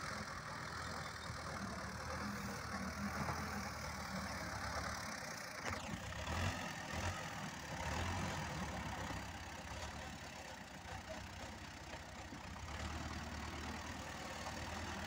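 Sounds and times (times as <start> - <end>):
tractor diesel engine throbbing: 0.0 - 15.0.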